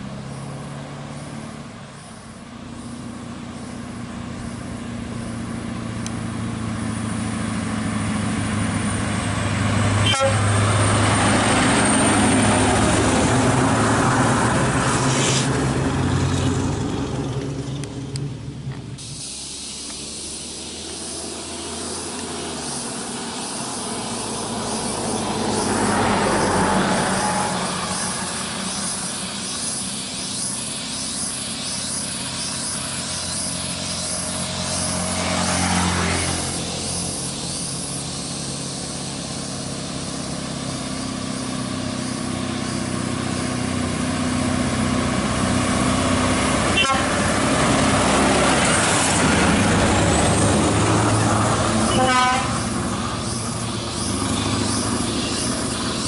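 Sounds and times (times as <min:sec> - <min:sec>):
truck diesel engine under load: 0:00.0 - 0:56.0
vehicles passing by: 0:00.0 - 0:56.0.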